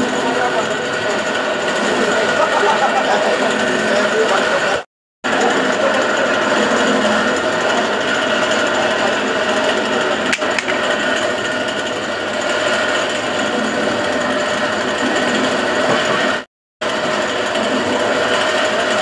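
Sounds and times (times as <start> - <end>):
drill bit grinding: 0.0 - 19.0
drill press motor whine: 0.0 - 19.0.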